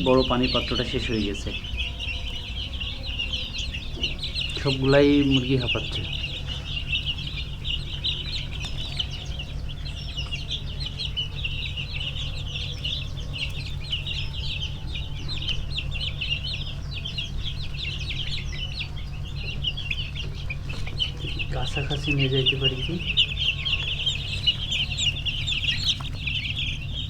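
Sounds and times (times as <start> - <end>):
chicks peeping: 0.0 - 27.0
low steady hum: 0.0 - 27.0.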